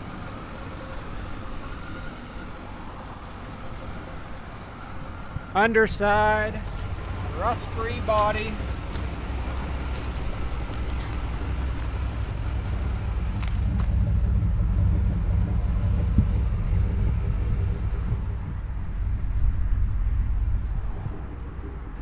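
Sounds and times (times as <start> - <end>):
engine idling exhaust rumble: 0.0 - 22.0.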